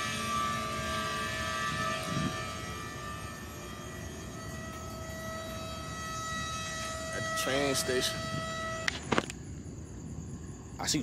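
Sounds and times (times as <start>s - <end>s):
mechanical drone: 0.0s - 9.8s.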